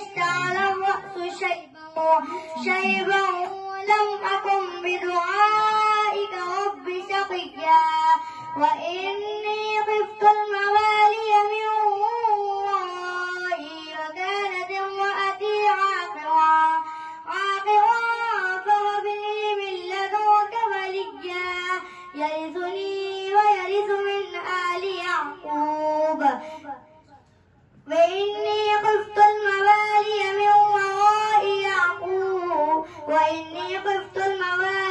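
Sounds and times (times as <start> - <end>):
boy reciting melodically: 0.0 - 27.2, 27.8 - 34.9.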